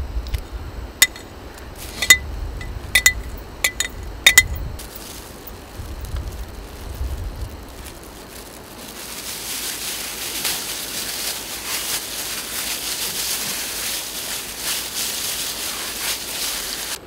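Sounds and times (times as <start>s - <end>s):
plastic bag crinkling: 3.0s - 17.0s.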